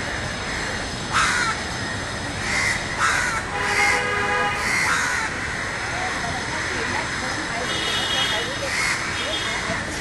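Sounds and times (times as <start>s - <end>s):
crows cawing: 0.0s - 4.0s, 4.6s - 7.6s, 8.6s - 9.8s
city traffic hum: 0.0s - 10.0s.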